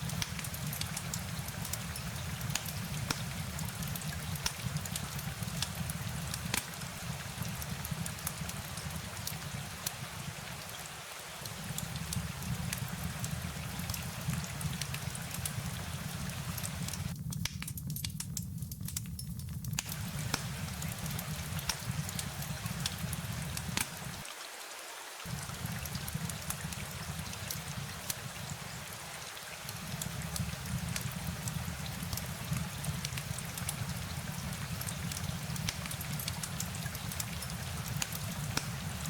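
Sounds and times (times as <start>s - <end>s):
low rain rumble: 0.0s - 17.2s, 18.0s - 39.0s
raindrops ticking: 0.0s - 24.3s, 25.3s - 39.0s.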